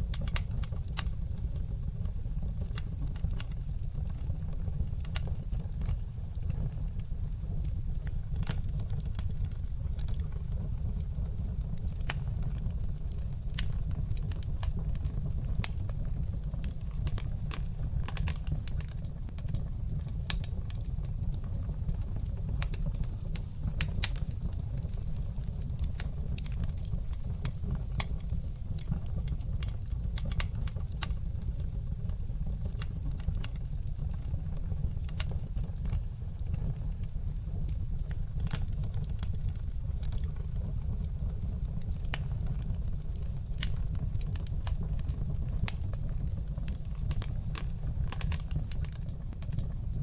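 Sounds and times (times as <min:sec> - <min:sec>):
low steady rumble: 0:00.0 - 0:50.0
wood fire crackling and popping: 0:00.0 - 0:50.0.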